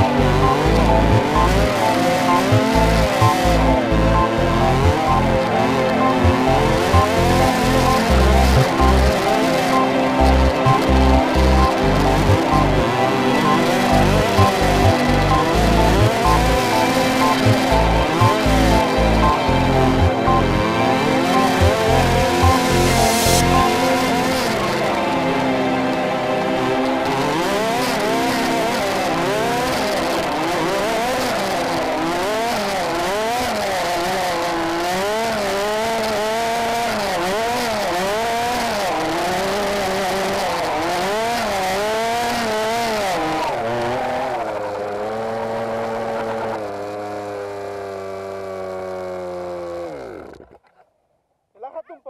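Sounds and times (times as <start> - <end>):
two-stroke engine revving: 0.0 - 50.6.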